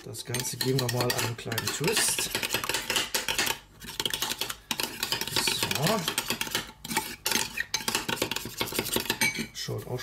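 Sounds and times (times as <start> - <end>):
metal spoon scraping ceramic bowl: 0.0 - 9.6.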